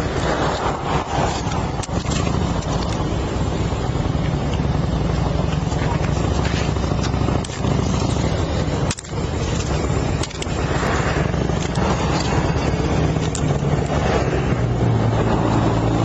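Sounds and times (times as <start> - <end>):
handling clicks and scrapes: 0.0 - 16.0
noisy hiss: 0.0 - 16.0
vehicle engine rumbling: 0.0 - 16.0.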